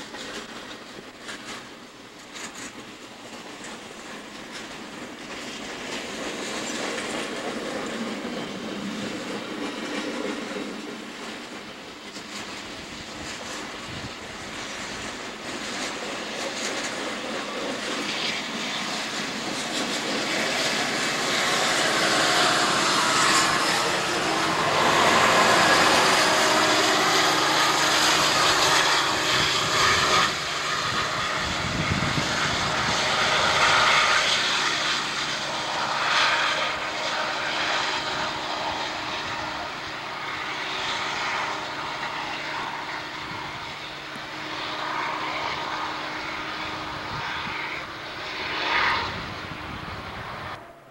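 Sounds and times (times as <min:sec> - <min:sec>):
diesel locomotive working hard: 0:00.0 - 0:50.9.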